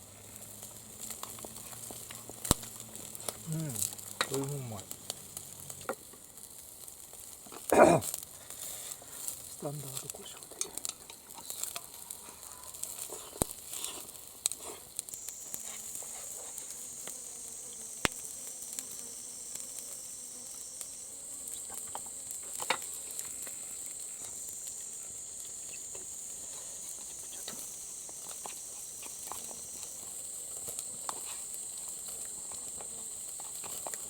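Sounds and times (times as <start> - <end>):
cicadas buzzing: 0.0 - 34.0.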